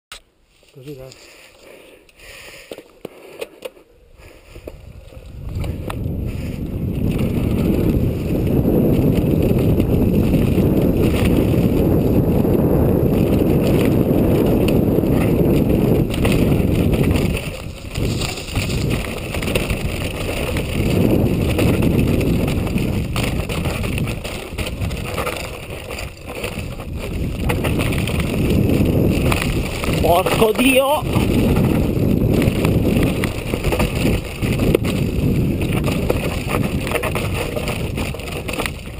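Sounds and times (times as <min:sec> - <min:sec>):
bike tyres rolling on dirt: 0:00.4 - 0:38.9
wind buffeting microphone: 0:03.8 - 0:38.9.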